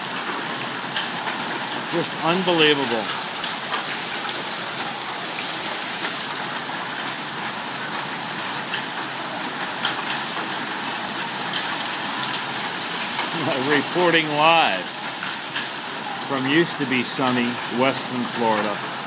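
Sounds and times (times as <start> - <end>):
hail and rain on a lawn: 0.0 - 19.0
hailstones ticking: 0.0 - 19.0.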